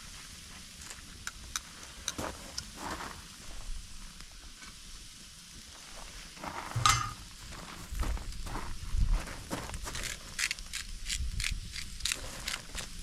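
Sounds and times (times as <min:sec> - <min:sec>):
food sizzling over campfire: 0:00.0 - 0:13.0.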